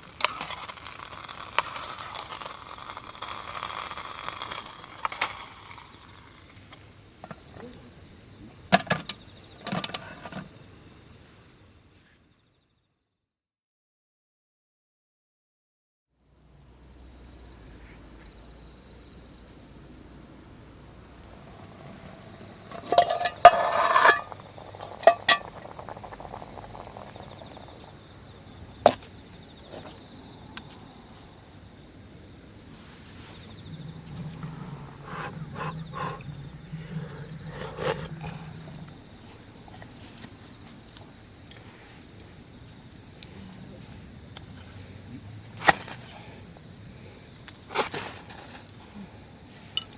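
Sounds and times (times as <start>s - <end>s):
insects chirring: 0.0s - 13.3s, 16.2s - 49.9s.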